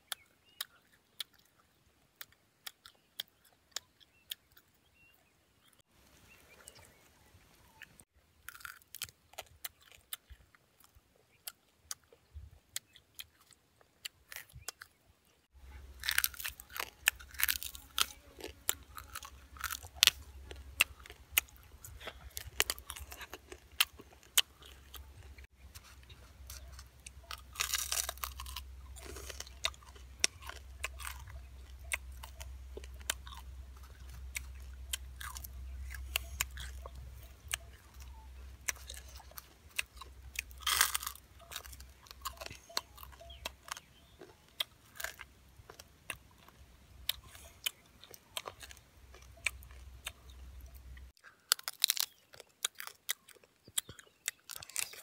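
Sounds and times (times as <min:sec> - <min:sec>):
person chewing and crunching bones: 0:00.0 - 0:05.8, 0:07.6 - 0:55.0.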